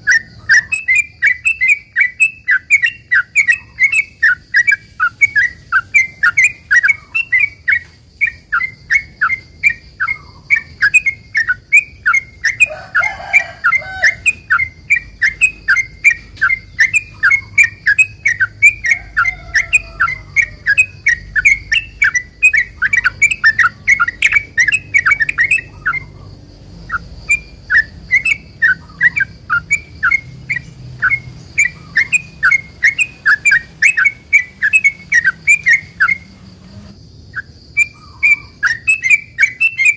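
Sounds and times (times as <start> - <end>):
bulbul singing sharp chirps: 0.0 - 39.9.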